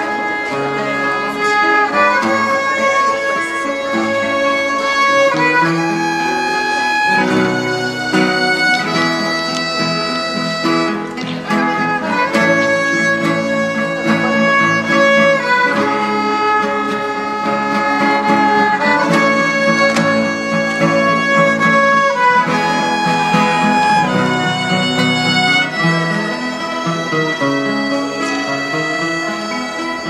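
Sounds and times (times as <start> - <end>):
acoustic guitars: 0.0 - 30.0
violins playing slow melody: 0.0 - 30.0.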